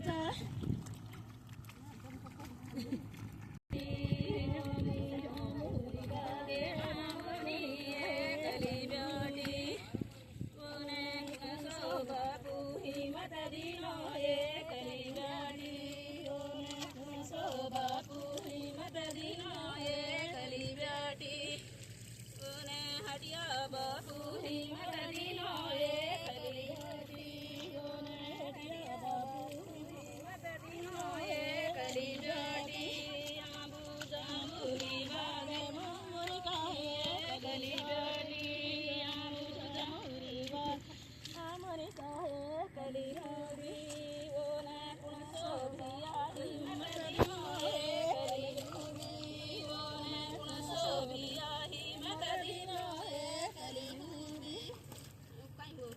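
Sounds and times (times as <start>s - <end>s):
woman singing a melodic song: 3.7s - 21.7s, 22.4s - 55.9s.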